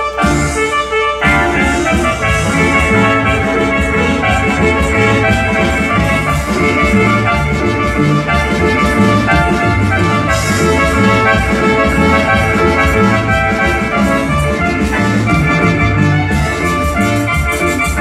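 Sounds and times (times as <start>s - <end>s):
loud dance music with drums: 0.0s - 18.0s.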